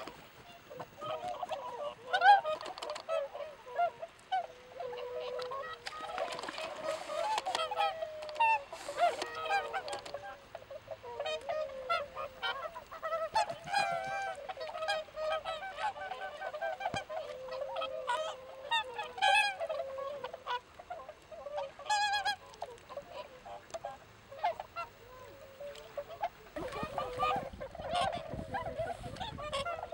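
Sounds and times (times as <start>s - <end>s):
swans calling: 0.0s - 29.9s.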